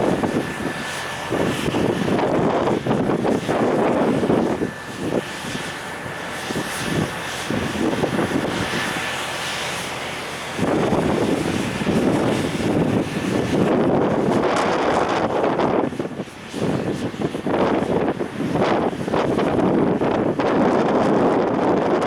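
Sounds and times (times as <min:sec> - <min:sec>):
steady rumble: 0:00.0 - 0:22.0
wind buffeting microphone: 0:00.0 - 0:22.0.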